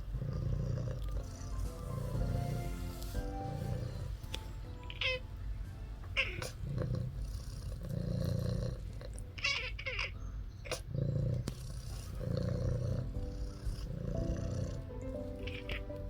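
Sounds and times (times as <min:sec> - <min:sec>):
kitten purring: 0:00.0 - 0:05.3, 0:06.0 - 0:16.0.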